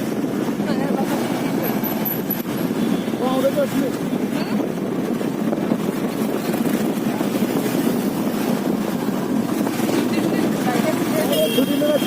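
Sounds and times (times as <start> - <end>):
vehicle engine and road noise: 0.0 - 12.0
wind on microphone: 0.0 - 12.0.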